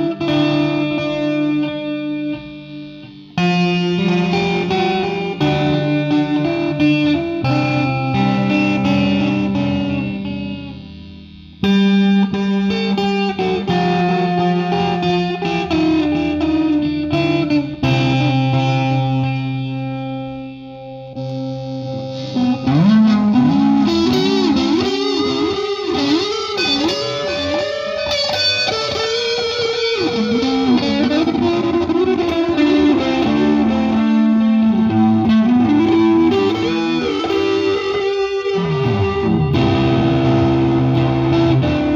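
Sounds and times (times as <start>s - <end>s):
guitar through effects unit: 0.0s - 41.9s.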